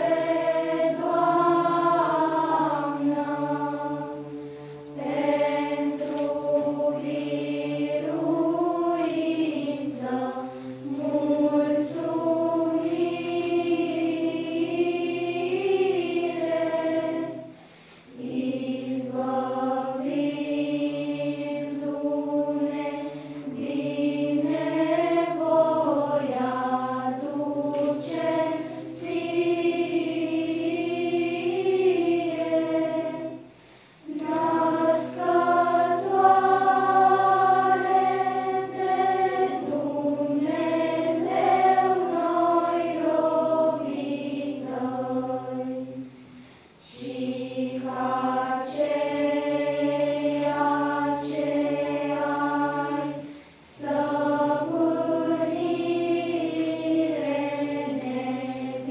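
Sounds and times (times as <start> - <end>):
children's choir singing: 0.0 - 58.9.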